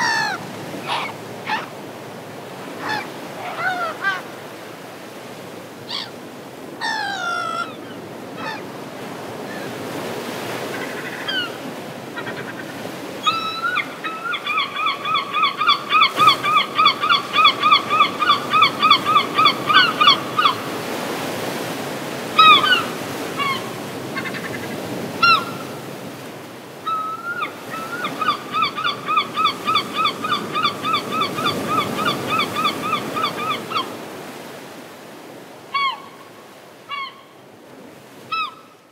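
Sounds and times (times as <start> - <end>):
seagulls calling: 0.0 - 1.8, 2.5 - 4.5, 5.8 - 6.2, 6.8 - 8.8, 9.4 - 21.1, 22.3 - 25.9, 26.8 - 34.3, 35.7 - 37.3, 38.2 - 38.8.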